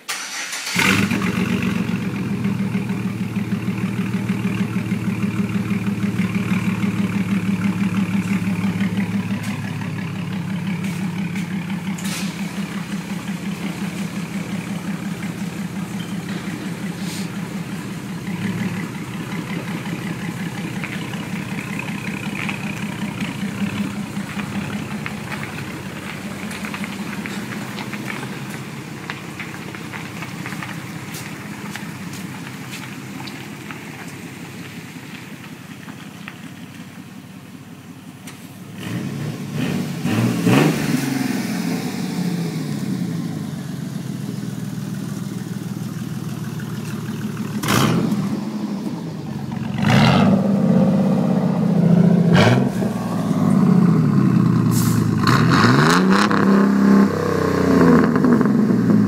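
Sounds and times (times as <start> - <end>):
pickup truck engine idling loud: 0.7 - 38.8, 41.8 - 59.0.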